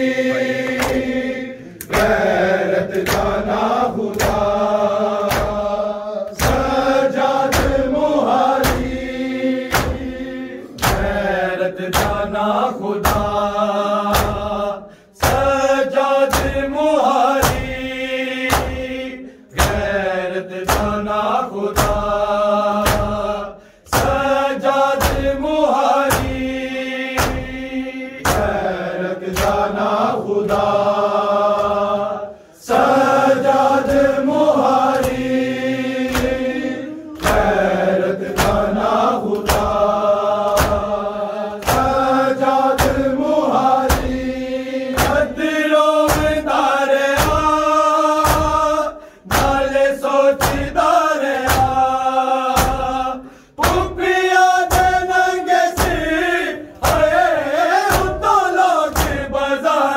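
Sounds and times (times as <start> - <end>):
chest-beating slaps: 0.0 - 31.9, 32.7 - 59.9
men chanting in unison: 0.0 - 59.9.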